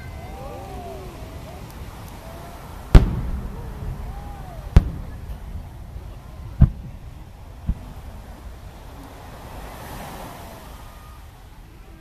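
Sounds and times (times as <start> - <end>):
fireworks booming: 0.0 - 9.8.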